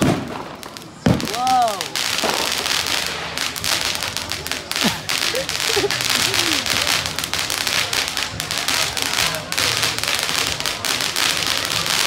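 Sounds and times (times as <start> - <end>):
firework fountain crackling and hissing: 0.0 - 12.0.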